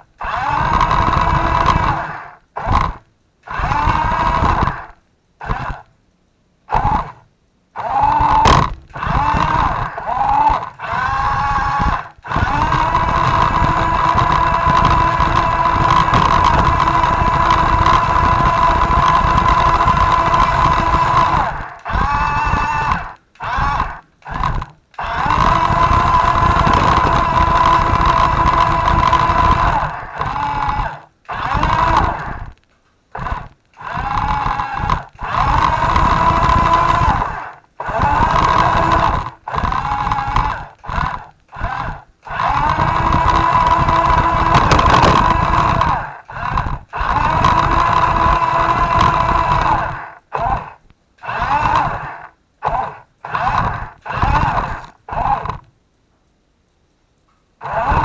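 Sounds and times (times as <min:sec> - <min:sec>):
toy truck motor whining: 0:00.0 - 0:05.9, 0:06.7 - 0:55.7, 0:57.6 - 0:58.0.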